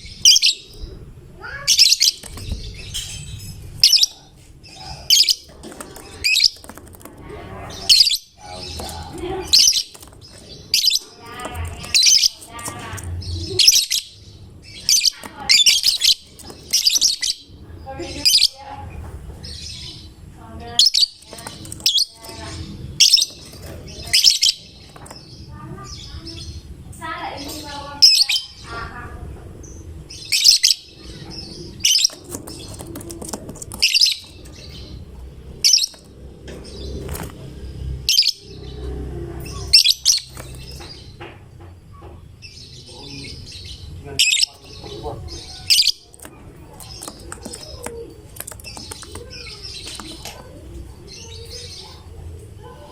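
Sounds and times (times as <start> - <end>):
lovebird chirping: 0.0 - 6.8, 7.6 - 18.7, 19.4 - 26.7, 29.6 - 41.2, 41.9 - 50.5.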